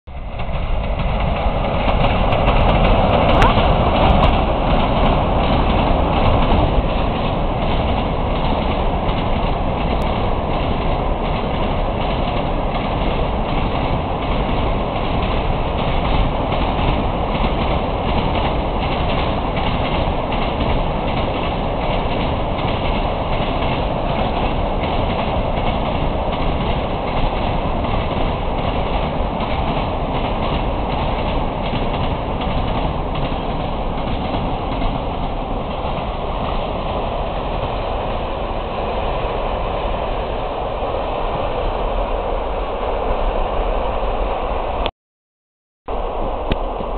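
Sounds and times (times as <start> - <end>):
electric locomotive passing: 0.1 - 44.9, 45.9 - 46.9
wheels clacking over rail joints: 0.2 - 38.2.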